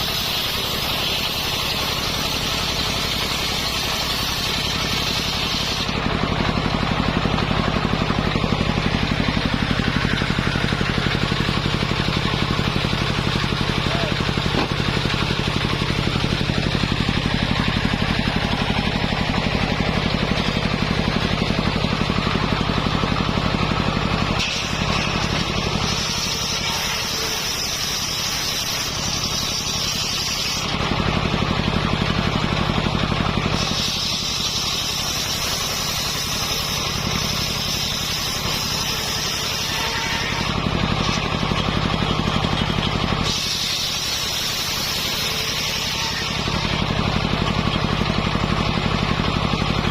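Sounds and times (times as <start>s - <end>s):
circular sawmill sawing wood: 0.0s - 49.9s.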